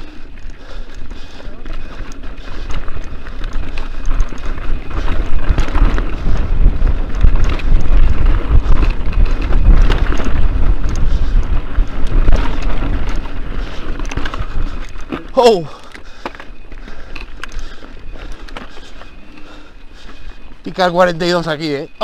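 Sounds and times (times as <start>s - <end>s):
bike rattling over stony trail: 0.0s - 22.0s
wind buffeting microphone: 0.0s - 22.0s.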